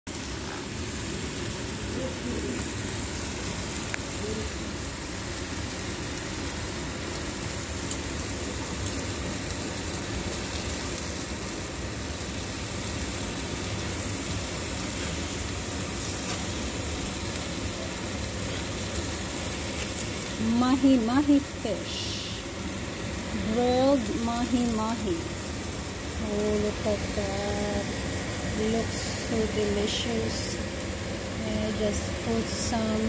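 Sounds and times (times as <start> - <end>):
fish sizzling on griddle: 0.1 - 33.0.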